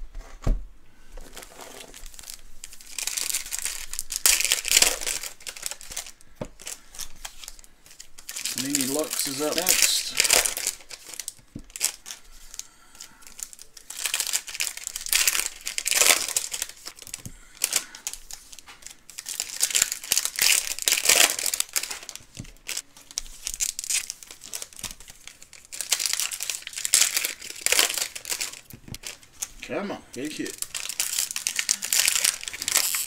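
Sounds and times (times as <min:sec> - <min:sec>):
plastic wrapping crinkling and tearing: 0:01.2 - 0:33.0.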